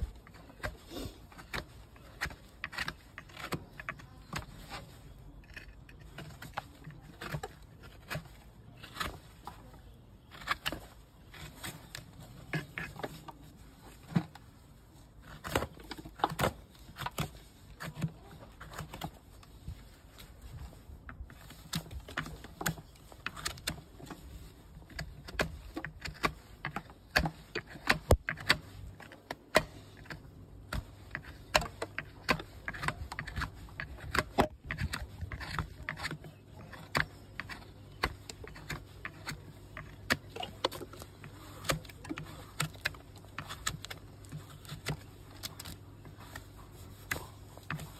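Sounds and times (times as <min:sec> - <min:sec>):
hoof trimming clicks and scrapes: 0:00.0 - 0:47.9.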